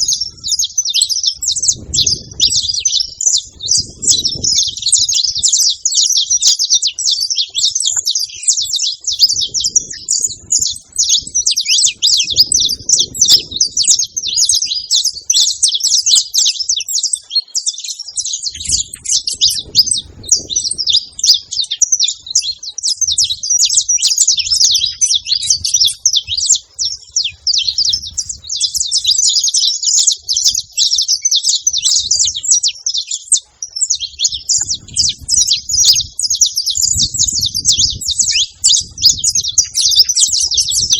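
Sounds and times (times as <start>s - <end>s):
finches chirping: 0.0s - 40.9s.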